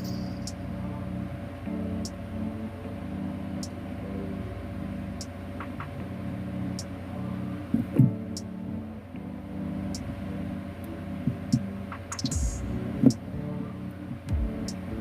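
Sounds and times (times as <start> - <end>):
electrical equipment humming: 0.0 - 15.0.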